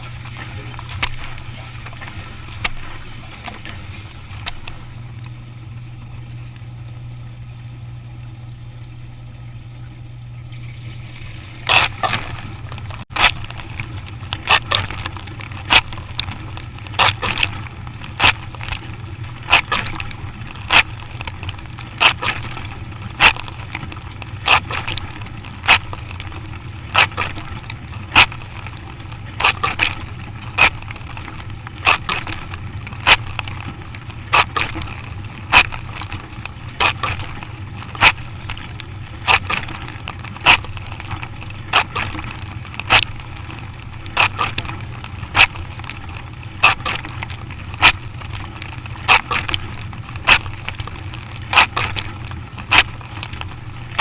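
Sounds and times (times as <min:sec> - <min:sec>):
machine humming: 0:00.0 - 0:54.0.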